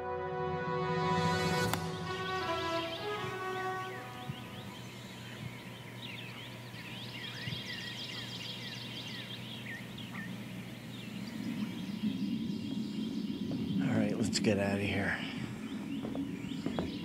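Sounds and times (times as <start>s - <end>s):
low rumbling noise: 0.0s - 17.0s
low steady hum: 0.0s - 17.0s
birds chirping: 1.8s - 17.0s.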